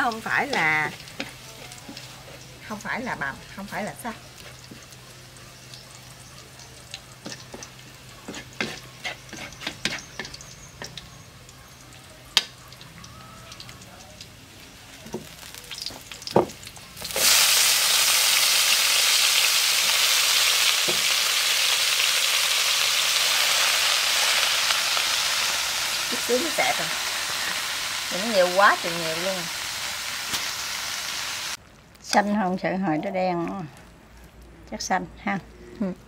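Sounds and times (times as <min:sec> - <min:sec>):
food sizzling in hot oil: 0:00.0 - 0:31.6.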